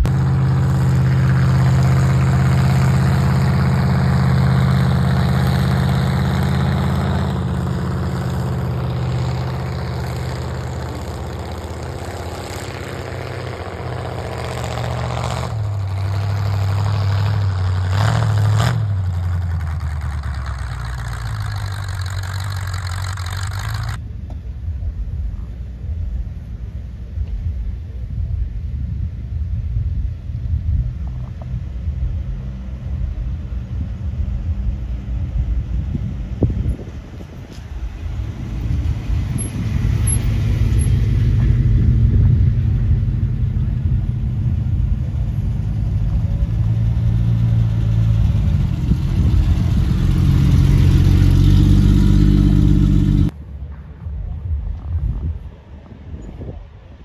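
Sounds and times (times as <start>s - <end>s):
car engines rumbling low: 0.0s - 57.0s.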